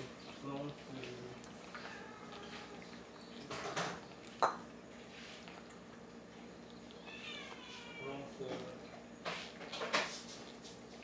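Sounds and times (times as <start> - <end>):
cat chewing food: 0.0 - 11.0.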